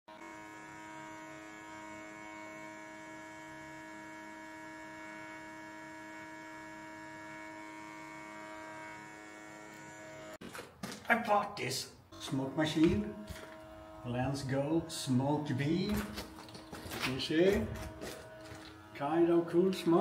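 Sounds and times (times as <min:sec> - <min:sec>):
electrical hum: 0:00.2 - 0:20.0.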